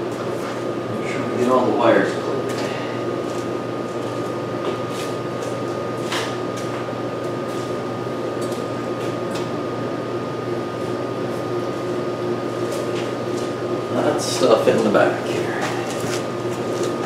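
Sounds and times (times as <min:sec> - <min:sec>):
fan-like hum: 0:00.0 - 0:17.0
thin steady whine: 0:00.0 - 0:17.0.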